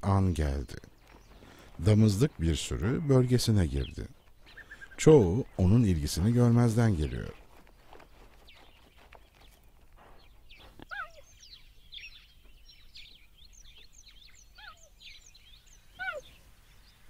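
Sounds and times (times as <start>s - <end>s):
birds chirping: 0.0s - 17.0s
faint open-air background: 0.0s - 17.0s
low curved bird call: 0.9s - 5.8s, 7.0s - 17.0s.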